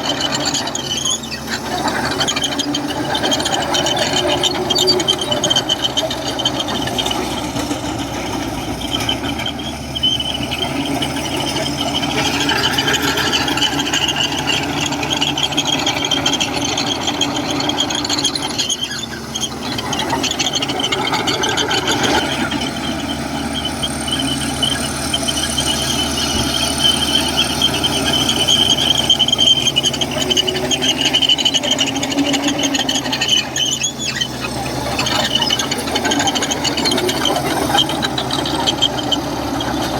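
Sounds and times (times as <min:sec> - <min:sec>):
bulldozer diesel engine under load: 0:00.0 - 0:39.9
steel tracks squealing and clattering: 0:00.0 - 0:39.9.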